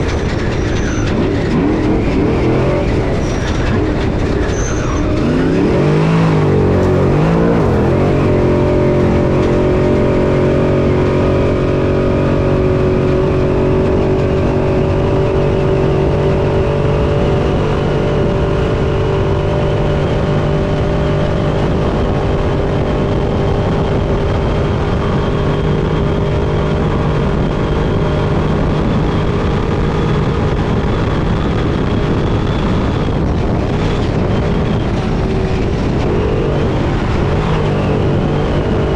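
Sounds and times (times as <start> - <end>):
truck engine at high revs: 0.0 - 38.9
wind and tyre noise: 0.0 - 38.9.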